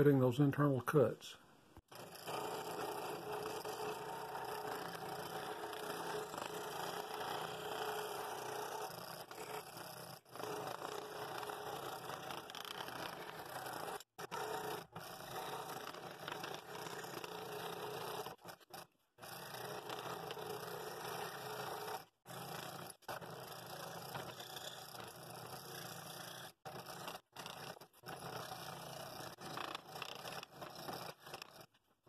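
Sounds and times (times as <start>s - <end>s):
scroll saw cutting wood: 1.9s - 31.9s.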